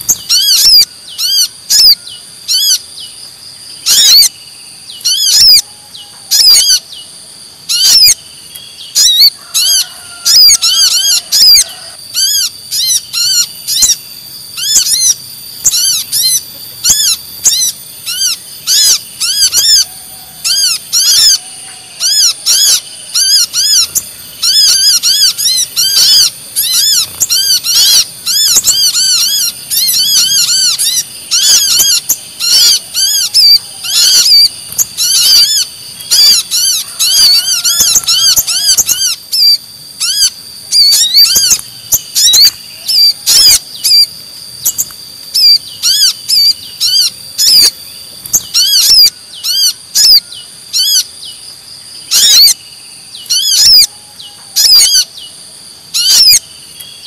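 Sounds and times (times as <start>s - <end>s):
sharp high bird chirps: 0.0s - 57.0s
steady high whine: 0.0s - 57.0s.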